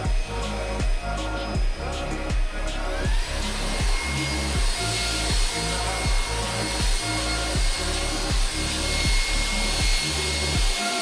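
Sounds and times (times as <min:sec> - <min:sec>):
music with kick-drum beat: 0:00.0 - 0:11.0
vacuum cleaner motor whine: 0:00.0 - 0:11.0.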